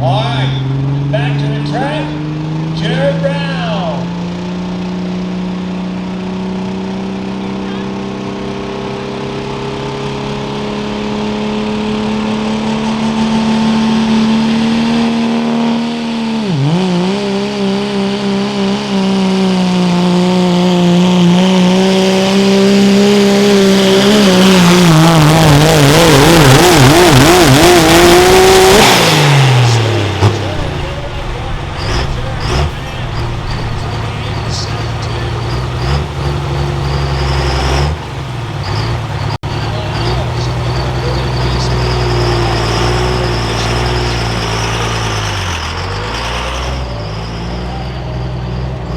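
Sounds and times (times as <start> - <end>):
diesel engine at full throttle: 0.0 - 48.9.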